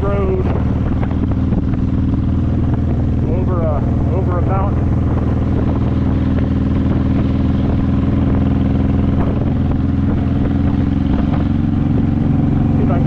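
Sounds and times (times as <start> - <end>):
motorcycle exhaust note: 0.0 - 13.0.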